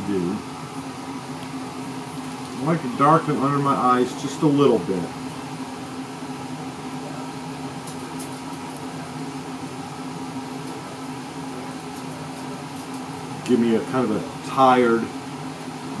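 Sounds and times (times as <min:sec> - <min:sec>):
appliance hum and hiss: 0:00.0 - 0:16.0.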